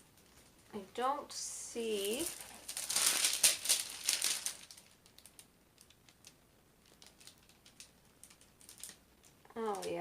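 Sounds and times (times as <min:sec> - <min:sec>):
plastic film crinkling: 0:01.8 - 0:10.0.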